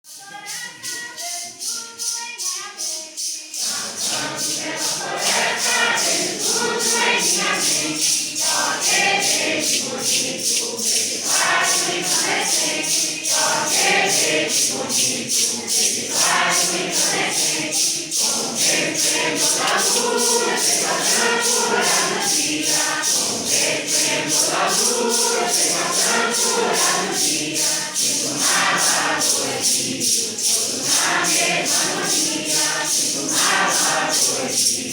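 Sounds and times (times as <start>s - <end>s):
maracas shaken on a beat: 0.0s - 34.9s
congregation singing a hymn: 0.1s - 34.9s.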